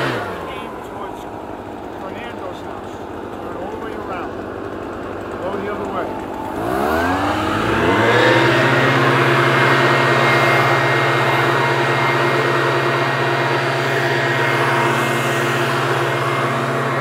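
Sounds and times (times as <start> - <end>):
leaf blower running: 0.0 - 17.0.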